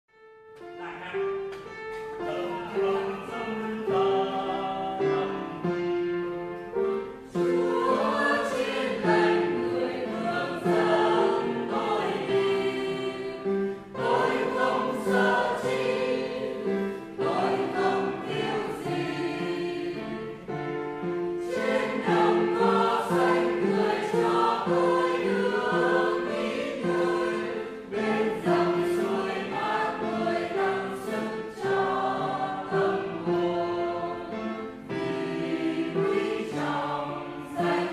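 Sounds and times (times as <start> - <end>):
choir singing a hymn: 1.2 - 37.9.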